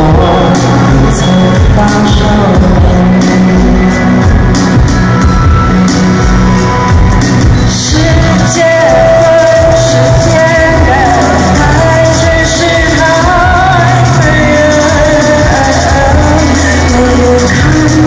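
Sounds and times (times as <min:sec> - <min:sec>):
live band playing pop-rock: 0:00.0 - 0:18.0.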